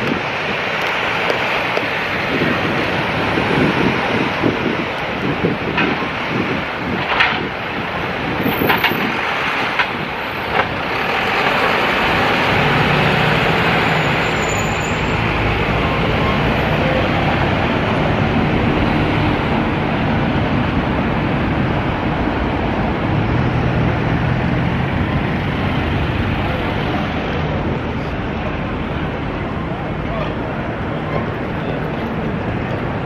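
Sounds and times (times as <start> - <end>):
road traffic and wind rush: 0.0 - 33.0.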